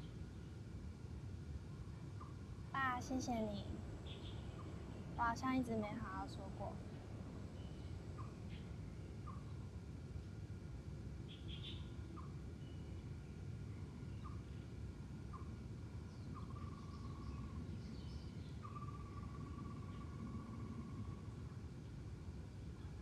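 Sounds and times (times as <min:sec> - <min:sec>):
steady low background noise: 0:00.0 - 0:23.0.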